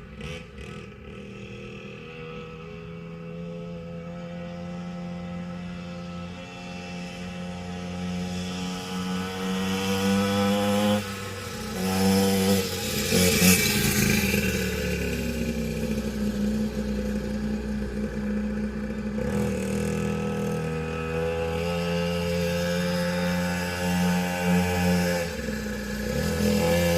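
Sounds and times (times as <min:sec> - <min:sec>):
small two-stroke engine revving: 0:00.0 - 0:26.9.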